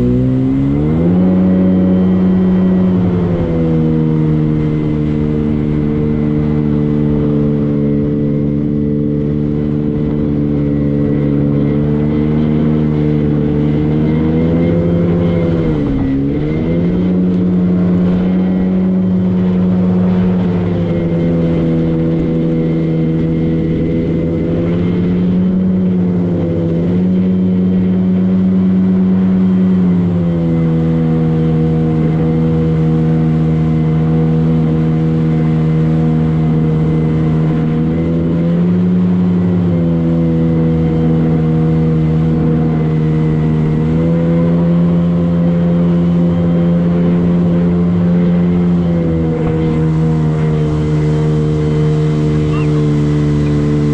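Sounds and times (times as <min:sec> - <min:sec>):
motorboat engine running: 0:00.0 - 0:53.9.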